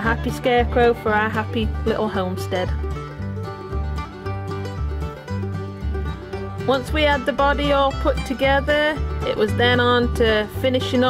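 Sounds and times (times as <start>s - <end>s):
upbeat bluegrass music: 0.0s - 11.0s.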